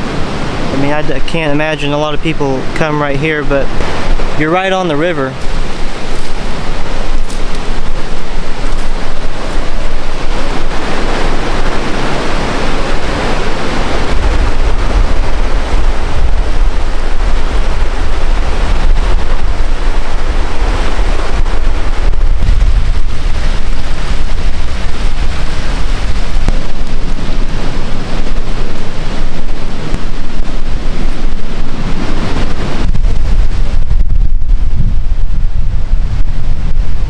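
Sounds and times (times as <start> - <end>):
river water rushing: 0.0 - 33.8
wind rumbling on microphone: 0.0 - 37.0.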